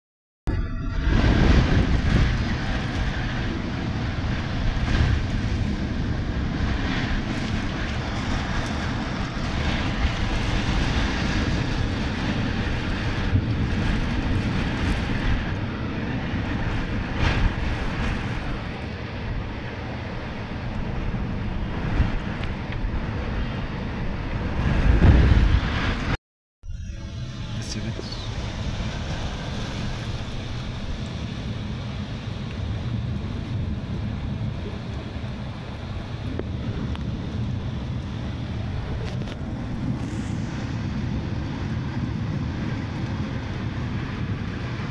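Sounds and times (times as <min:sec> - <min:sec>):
wind: 0:00.5 - 0:44.9
heavy rain: 0:00.6 - 0:26.2, 0:26.8 - 0:44.9.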